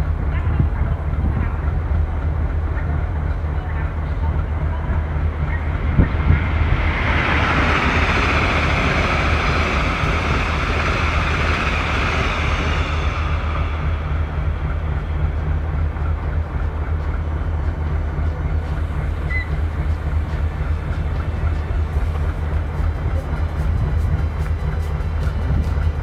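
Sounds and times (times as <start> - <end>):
locomotive idling hum: 0.0 - 26.0
train rumbling: 0.0 - 26.0.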